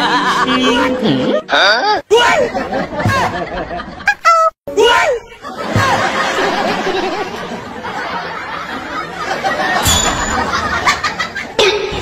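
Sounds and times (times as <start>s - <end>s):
people laughing: 0.0s - 4.2s, 5.2s - 12.0s.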